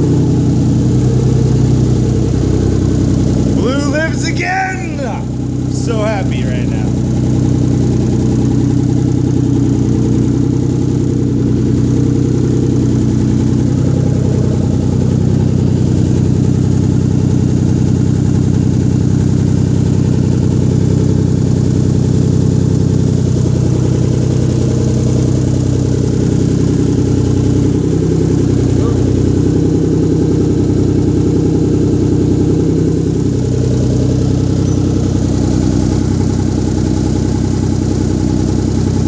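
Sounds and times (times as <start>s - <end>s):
car engine idling roughly: 0.0s - 39.0s.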